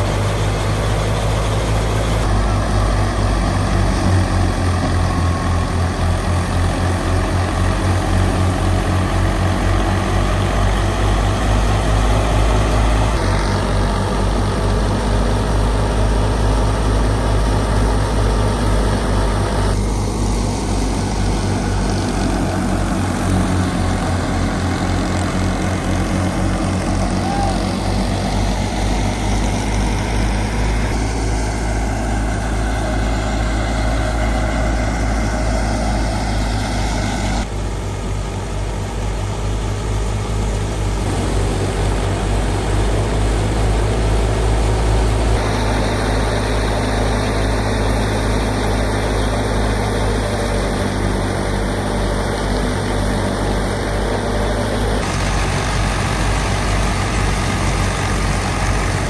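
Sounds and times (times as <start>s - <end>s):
thresher machinery noise: 0.0s - 59.0s
tractor diesel engine throbbing: 0.0s - 59.0s.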